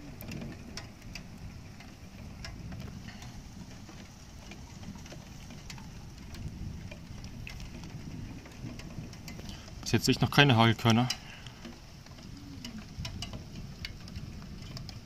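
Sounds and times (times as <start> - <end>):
large raindrops ticking: 0.0 - 15.0
low rush of rain: 0.0 - 15.0.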